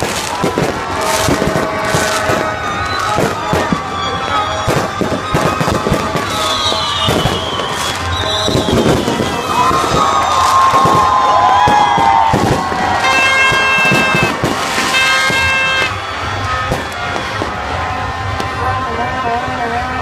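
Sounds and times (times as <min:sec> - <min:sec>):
fireworks whistling: 0:00.0 - 0:18.6
fireworks bangs and crackles: 0:00.0 - 0:20.0.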